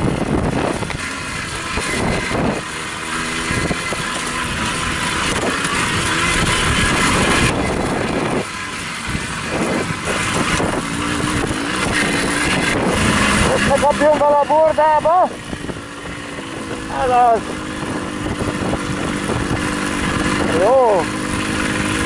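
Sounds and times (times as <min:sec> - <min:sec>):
moped engine running: 0:00.0 - 0:22.0
wind rushing over microphone: 0:00.0 - 0:22.0.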